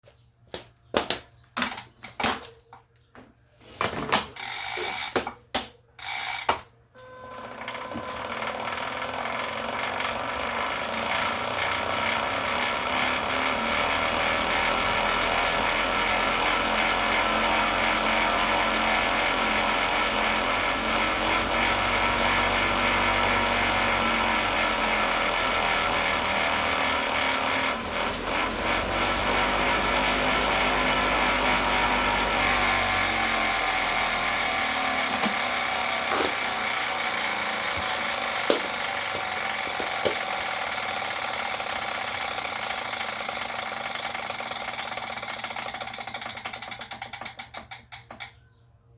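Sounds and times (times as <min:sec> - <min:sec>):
bike trainer rumbling: 0:04.0 - 0:05.4, 0:07.3 - 0:48.3.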